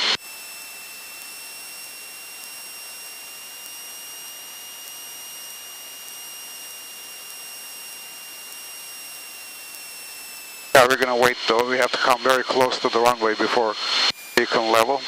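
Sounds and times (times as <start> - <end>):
thin high-pitched whine: 0.0 - 15.0.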